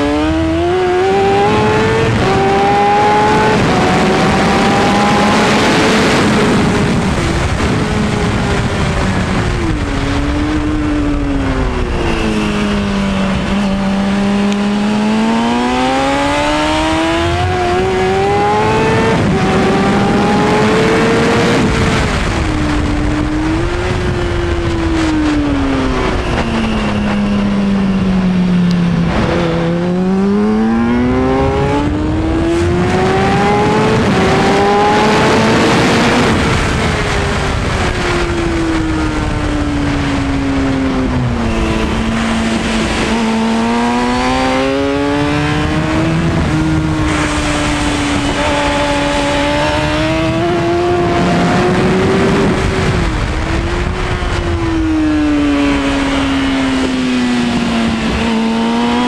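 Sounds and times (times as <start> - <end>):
motorcycle engine revving: 0.0 - 59.0
wind rushing: 0.3 - 59.0.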